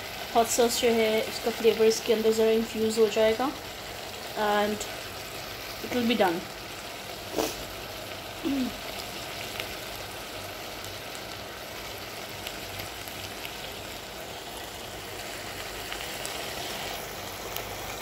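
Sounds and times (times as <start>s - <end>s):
stir-fry sizzling in pot: 0.0s - 18.0s.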